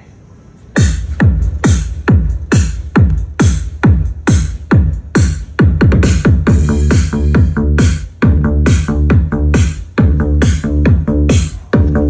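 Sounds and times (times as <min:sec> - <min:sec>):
deep bass: 0:00.8 - 0:12.0
kick drum: 0:00.8 - 0:12.0.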